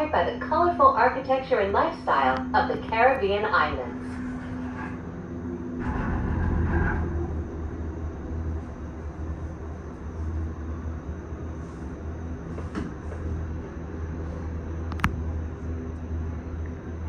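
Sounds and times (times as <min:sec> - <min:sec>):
gondola cabin hum and rumble: 0:00.0 - 0:17.0.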